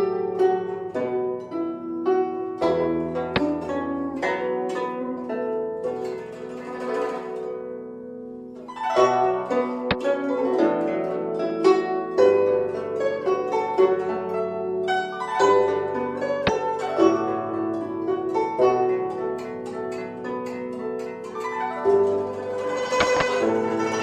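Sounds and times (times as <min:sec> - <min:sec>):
plucked string music: 0:00.0 - 0:24.0.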